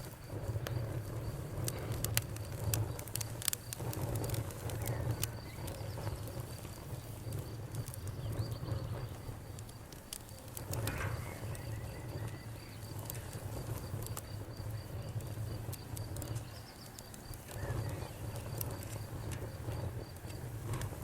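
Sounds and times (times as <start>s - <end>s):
campfire crackling and popping: 0.0s - 21.0s
crickets chirping: 0.0s - 21.0s.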